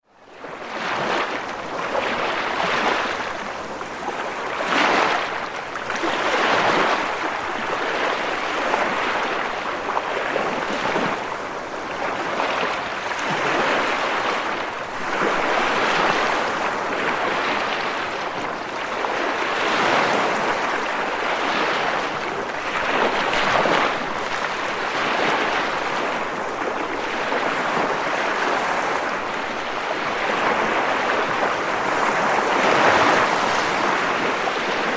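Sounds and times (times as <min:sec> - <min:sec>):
waves washing in: 0:00.4 - 0:34.9.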